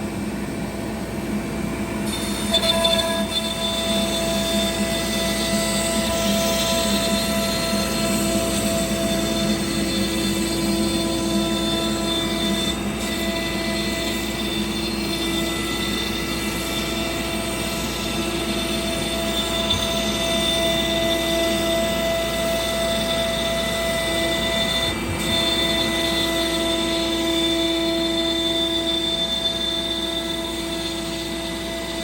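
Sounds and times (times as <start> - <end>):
cnc router whining: 0.0 - 32.0.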